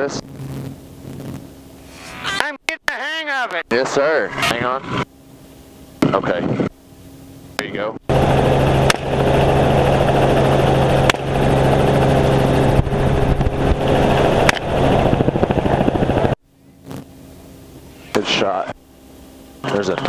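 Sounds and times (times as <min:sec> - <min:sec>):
helicopter rotor and engine: 0:03.6 - 0:20.0.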